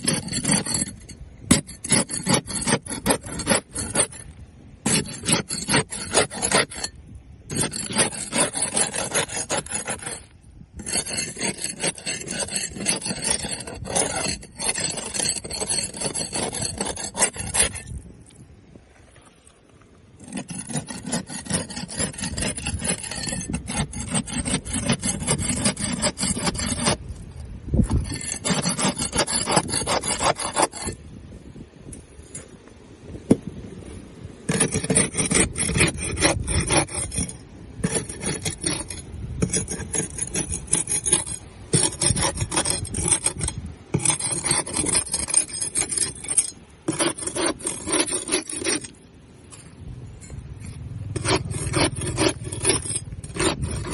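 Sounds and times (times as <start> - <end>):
barnacles scraped off boat hull: 0.0 - 31.2, 33.9 - 53.9.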